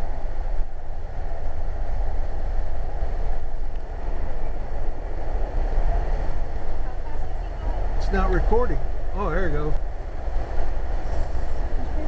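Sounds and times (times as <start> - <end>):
train rumble from inside car: 0.0 - 12.0.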